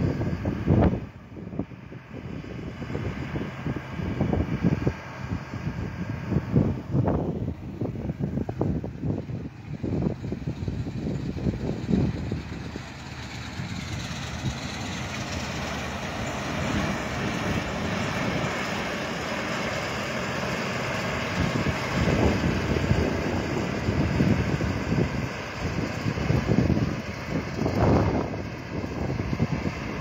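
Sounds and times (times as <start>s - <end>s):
combine harvester running: 0.0s - 30.0s
wind buffeting microphone: 0.0s - 30.0s.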